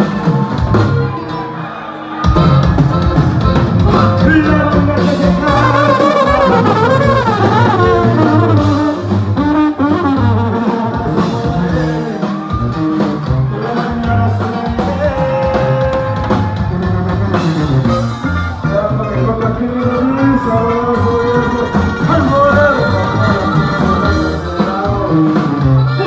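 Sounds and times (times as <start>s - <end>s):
guitars and bass playing: 0.0s - 26.0s
man singing: 3.7s - 26.0s.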